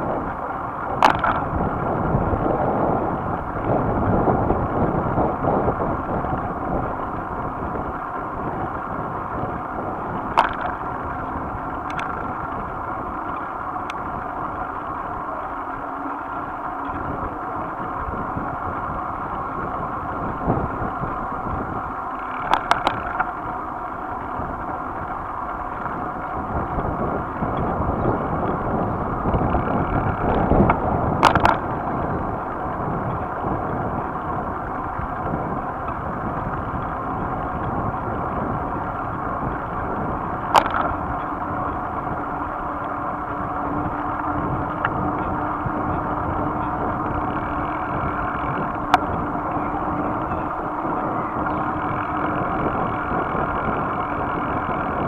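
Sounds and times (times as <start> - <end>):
tyres rushing on asphalt: 0.0 - 55.0
wind: 0.0 - 55.0
sharp clicks and rattles: 0.2 - 55.0.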